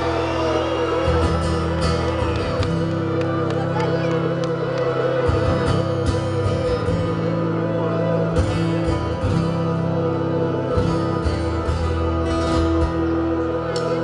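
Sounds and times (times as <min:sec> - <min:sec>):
electric guitars and bass chords: 0:00.0 - 0:14.0.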